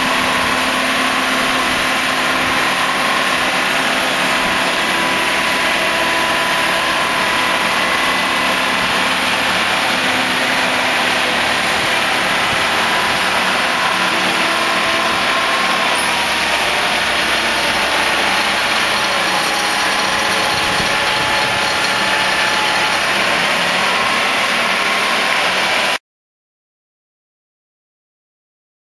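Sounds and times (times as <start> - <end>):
engine and hydraulic drive running: 0.0 - 26.0.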